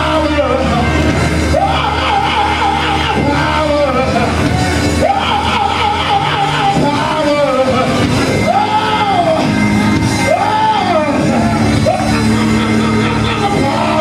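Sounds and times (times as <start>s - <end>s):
held instrumental chords: 0.0s - 14.0s.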